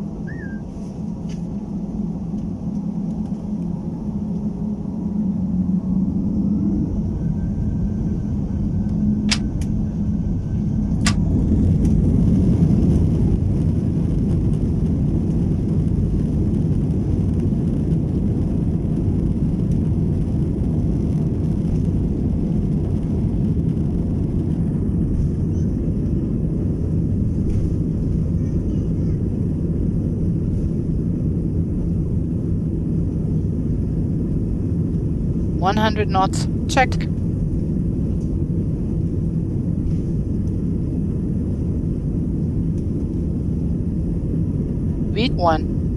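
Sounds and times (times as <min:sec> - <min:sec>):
airliner rumble on runway: 0:00.0 - 0:45.9
high engine whine: 0:00.0 - 0:45.9
jet engines at takeoff thrust: 0:00.0 - 0:45.9.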